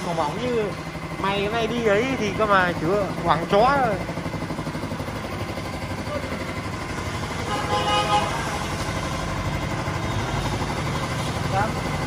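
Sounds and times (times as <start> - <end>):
motor running with low rumble: 0.0 - 12.0.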